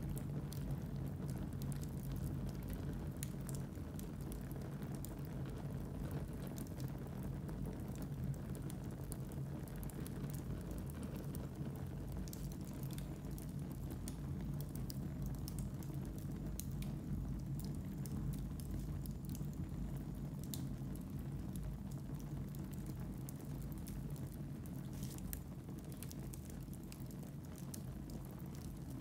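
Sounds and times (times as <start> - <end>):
fire crackling and popping: 0.0 - 29.0
flames rushing: 0.0 - 29.0.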